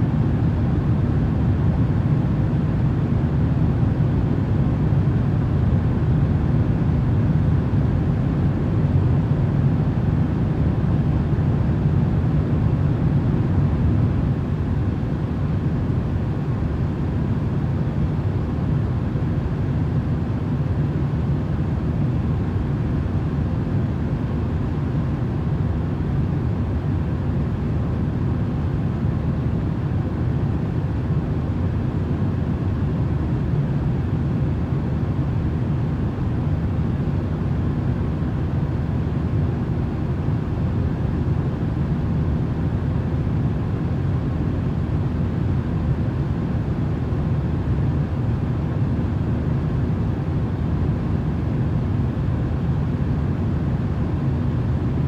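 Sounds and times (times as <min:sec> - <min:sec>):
steady low rumbling noise: 0:00.0 - 0:55.0.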